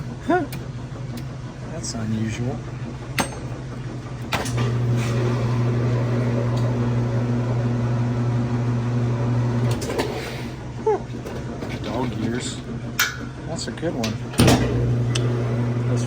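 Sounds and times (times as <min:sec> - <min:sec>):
washer motor humming: 0:00.0 - 0:16.0.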